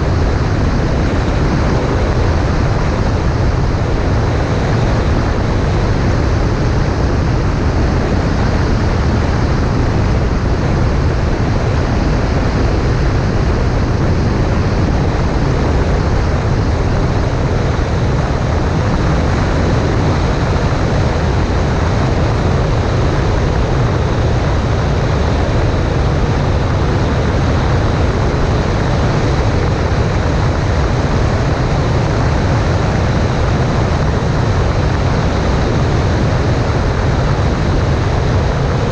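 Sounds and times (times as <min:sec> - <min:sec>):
aircraft engine and propeller drone: 0:00.0 - 0:38.9
wind rushing over camera: 0:00.0 - 0:38.9.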